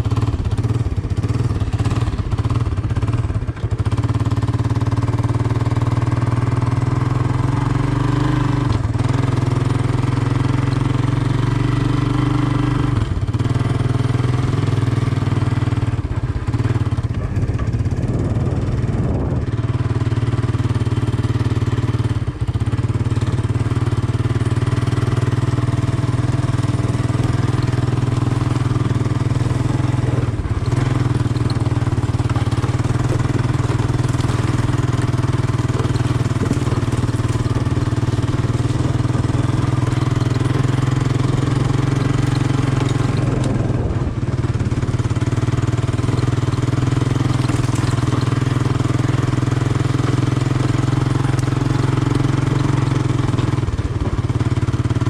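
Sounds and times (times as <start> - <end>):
three-wheeler engine running: 0.0 - 55.0.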